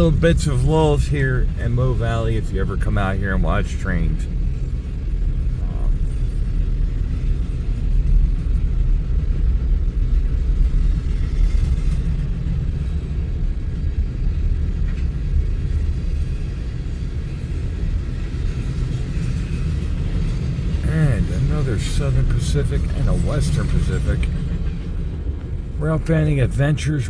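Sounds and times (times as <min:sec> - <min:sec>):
freight train cars rolling past: 0:00.0 - 0:27.0.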